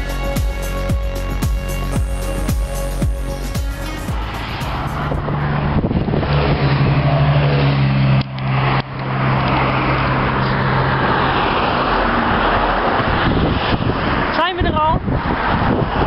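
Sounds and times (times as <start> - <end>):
broad roar: 0.0 - 14.3
race car engine drone: 0.0 - 16.0.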